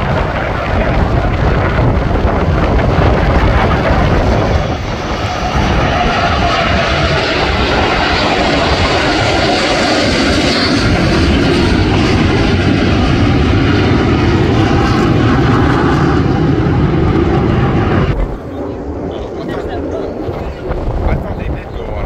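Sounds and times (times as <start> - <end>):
jet engines roaring overhead: 0.0 - 22.0.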